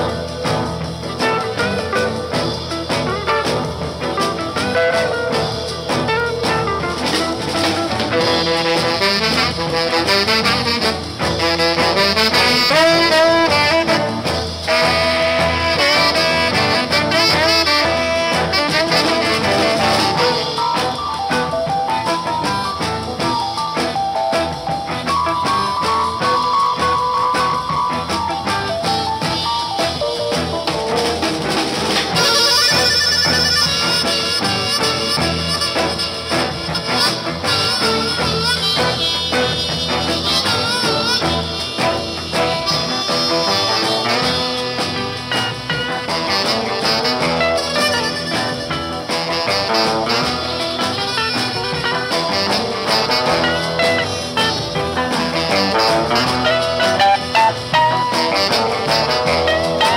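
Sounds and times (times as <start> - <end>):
instrumental soul band music: 0.0 - 59.9.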